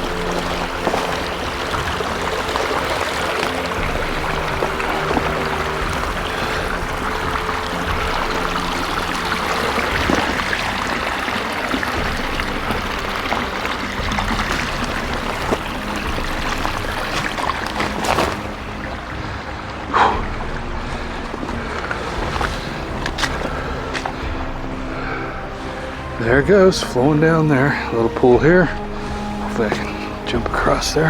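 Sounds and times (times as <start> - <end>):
creek water flowing: 0.0 - 31.0.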